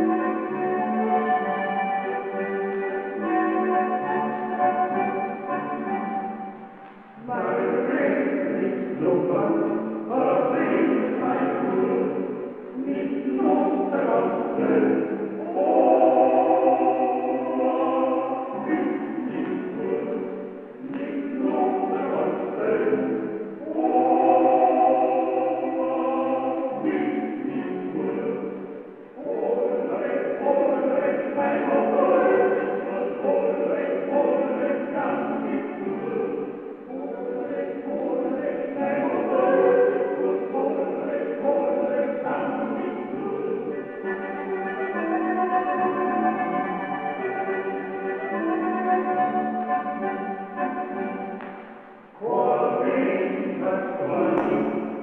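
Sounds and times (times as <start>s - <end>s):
choral singing: 0.0s - 55.0s.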